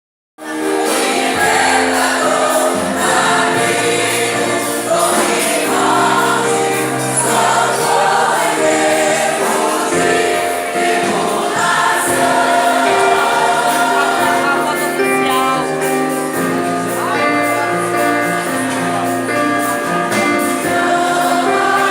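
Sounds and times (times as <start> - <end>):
mixed choir singing worship song: 0.4 - 21.9.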